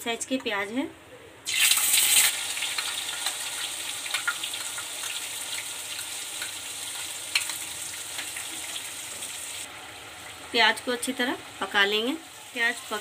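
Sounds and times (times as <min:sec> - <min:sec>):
onion paste sizzling in oil: 0:01.4 - 0:13.0.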